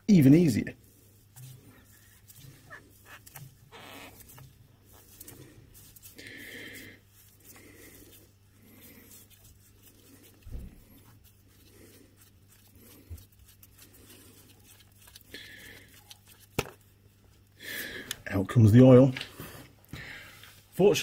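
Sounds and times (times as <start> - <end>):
gloved hand twisting oil filter: 1.0 - 18.2.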